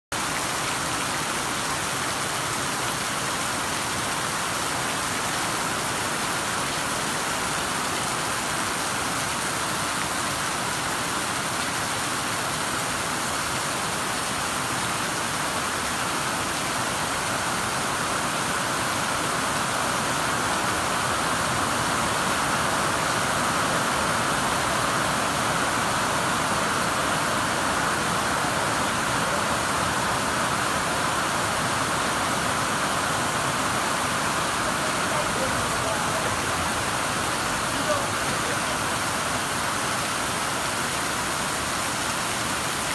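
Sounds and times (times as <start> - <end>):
heavy rain on a metal roof: 0.1 - 42.9.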